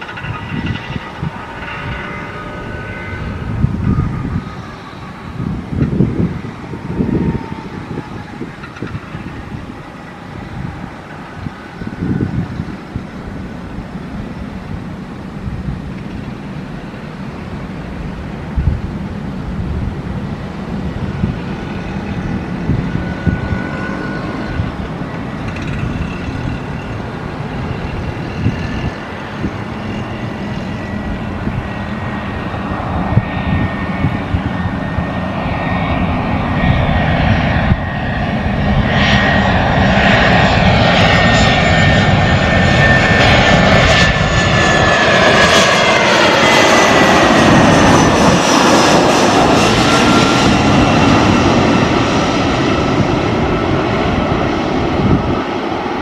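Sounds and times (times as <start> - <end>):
jet airliner engines whining: 0.0 - 56.0.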